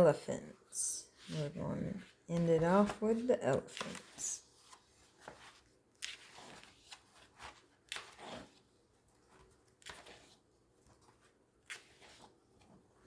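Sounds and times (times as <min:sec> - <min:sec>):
magazine pages turning: 0:02.0 - 0:13.0.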